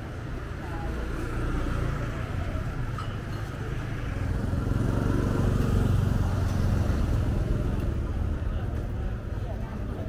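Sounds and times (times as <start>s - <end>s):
motorbikes passing: 0.0s - 10.0s
road traffic rumble: 0.0s - 10.0s.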